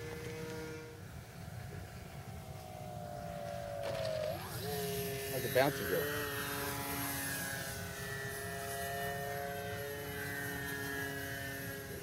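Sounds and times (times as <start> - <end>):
model plane motor whining: 0.0 - 12.0.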